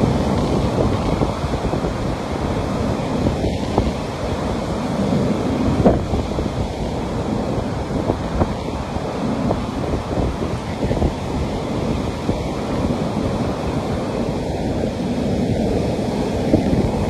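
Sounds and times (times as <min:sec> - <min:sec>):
waves washing onto a beach: 0:00.0 - 0:17.0
wind buffeting microphone: 0:00.0 - 0:17.0.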